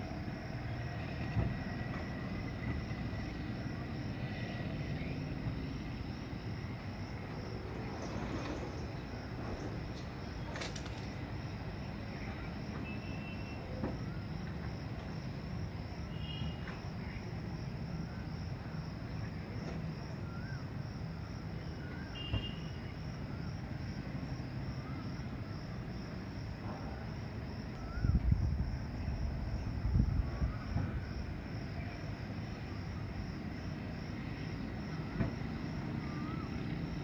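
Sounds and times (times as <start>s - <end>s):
insect-like drone: 0.0s - 37.0s.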